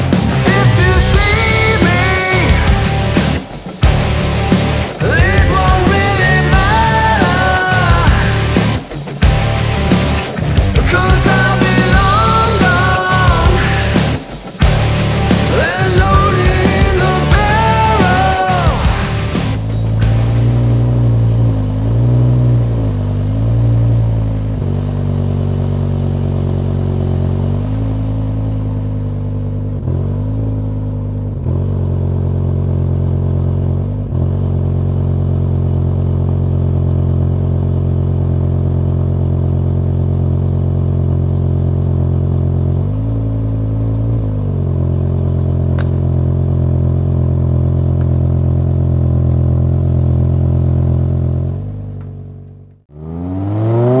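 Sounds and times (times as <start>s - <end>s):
car engine idling: 0.0s - 54.0s
engine throttle blips: 0.0s - 54.0s.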